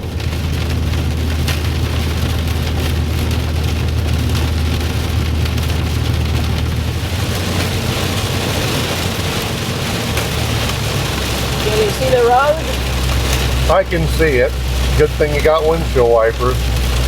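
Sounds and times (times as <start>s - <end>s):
heavy rain on a vehicle: 0.0s - 17.0s
vehicle road drone: 0.0s - 17.0s.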